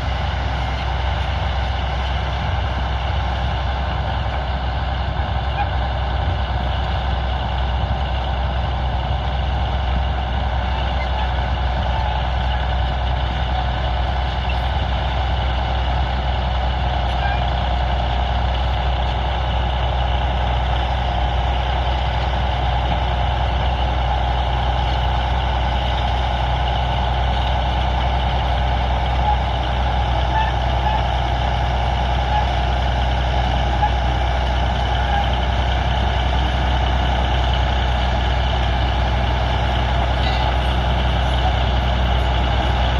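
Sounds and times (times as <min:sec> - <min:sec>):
heavy machinery diesel engine: 0:00.0 - 0:42.9.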